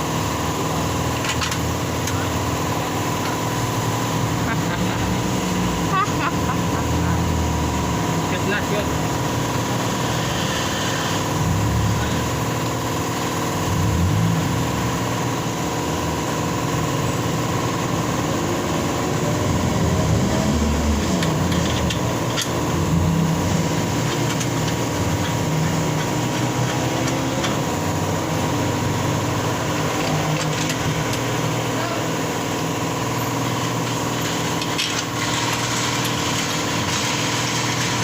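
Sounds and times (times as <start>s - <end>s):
motor drone: 0.0s - 38.0s.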